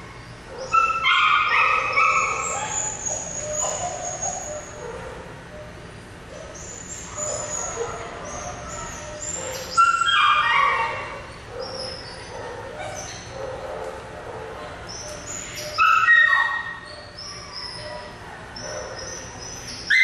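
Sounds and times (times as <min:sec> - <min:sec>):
dog whining and yelping: 0:00.6 - 0:13.3, 0:14.9 - 0:19.2.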